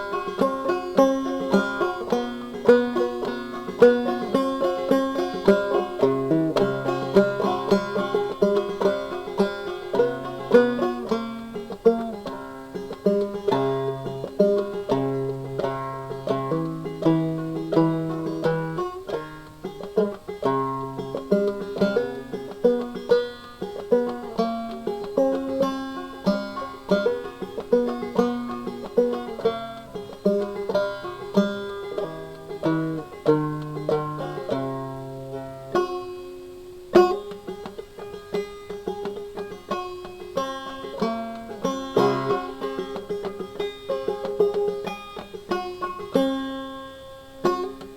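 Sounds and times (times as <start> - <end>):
banjo tune: 0.0 - 47.9.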